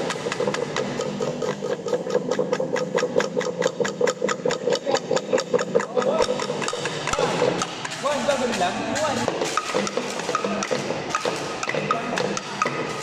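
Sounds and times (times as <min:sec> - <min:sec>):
sticks striking bamboo tubes: 0:00.0 - 0:13.0.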